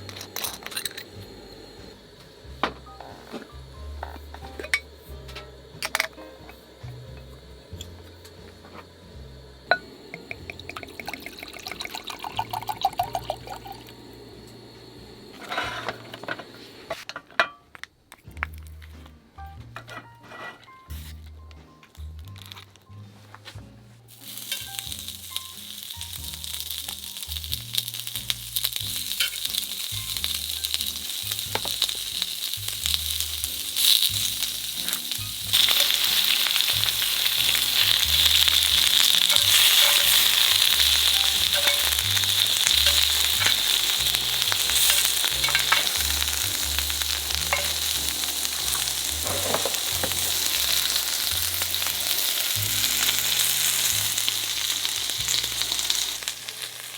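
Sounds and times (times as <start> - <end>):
meat sizzling in a hot pan: 0.0 - 16.9, 24.1 - 56.9.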